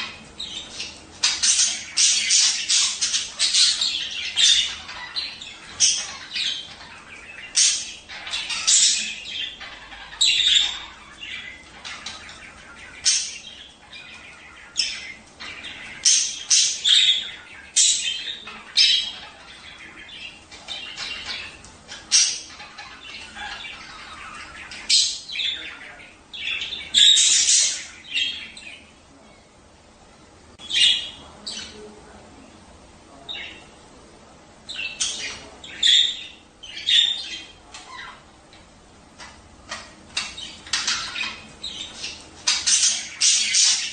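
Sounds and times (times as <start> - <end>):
budgerigars chattering: 0.0 - 29.0, 34.6 - 43.9.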